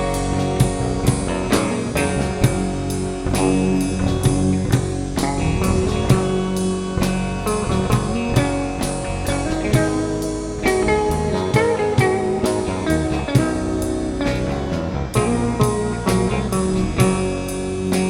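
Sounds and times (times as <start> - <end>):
drum kit beat: 0.0 - 18.0
rock guitar: 0.0 - 18.0.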